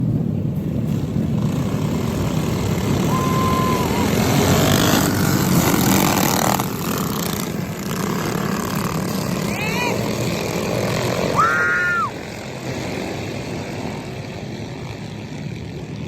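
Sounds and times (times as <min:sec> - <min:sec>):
mini bike engines running: 0:00.0 - 0:16.0.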